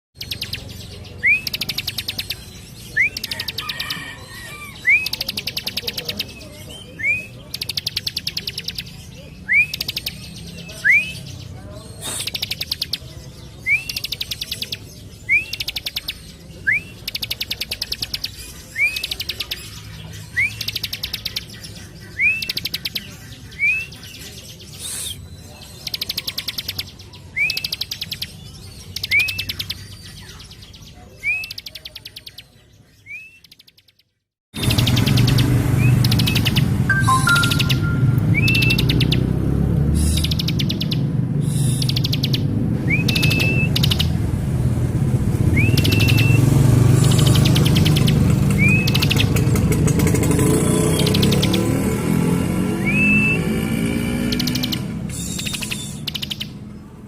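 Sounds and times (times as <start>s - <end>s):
bird song whistle and rattle: 0.2s - 39.2s, 40.0s - 44.2s, 45.5s - 56.6s.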